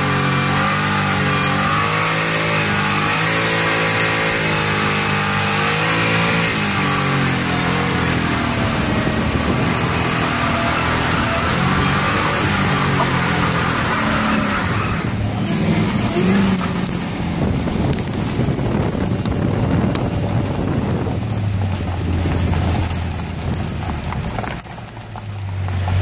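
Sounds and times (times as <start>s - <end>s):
car engine revving: 0.0s - 26.0s
tyres spinning on pavement: 0.0s - 26.0s.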